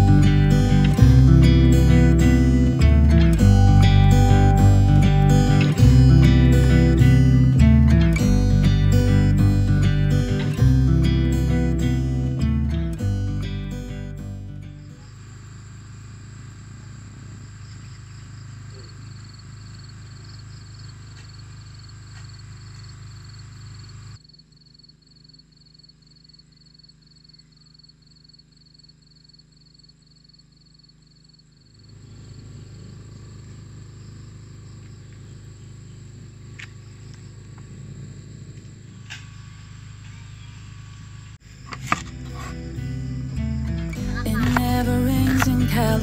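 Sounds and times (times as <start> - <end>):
insect chirping: 0.0 - 46.0.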